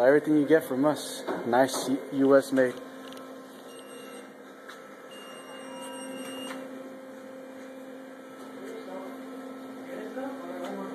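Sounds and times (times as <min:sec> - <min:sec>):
low hum of machinery: 0:00.0 - 0:10.9.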